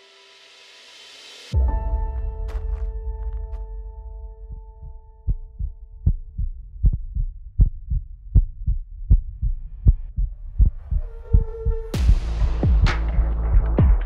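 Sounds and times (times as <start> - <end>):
heartbeat thumps: 1.7 - 14.0.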